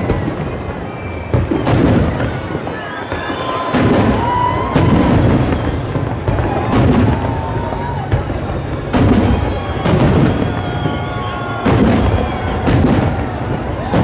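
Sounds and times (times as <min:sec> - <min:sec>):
firework shells booming: 0:00.0 - 0:14.0.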